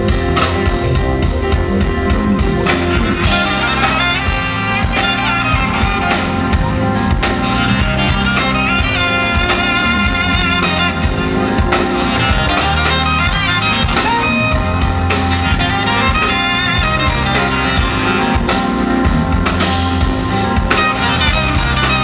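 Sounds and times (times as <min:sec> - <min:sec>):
bass line: 0:00.0 - 0:22.0
guitar: 0:00.0 - 0:22.0.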